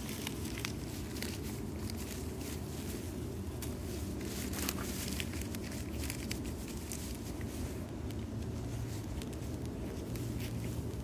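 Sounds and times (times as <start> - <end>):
fire low rumble: 0.0 - 11.0.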